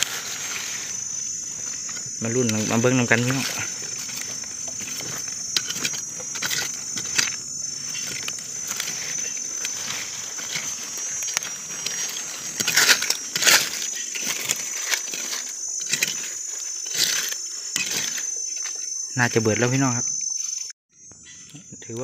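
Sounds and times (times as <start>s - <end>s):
stick scraping through dry leaves: 0.0s - 18.8s
insects droning: 0.0s - 22.0s.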